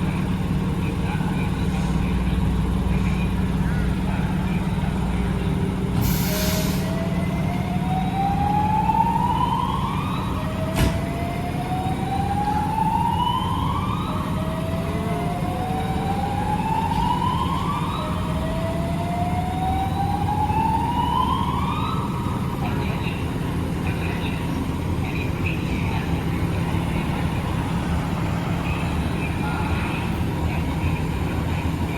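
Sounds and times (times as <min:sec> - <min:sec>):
low engine hum: 0:00.0 - 0:31.9
fire siren wailing: 0:00.1 - 0:31.9.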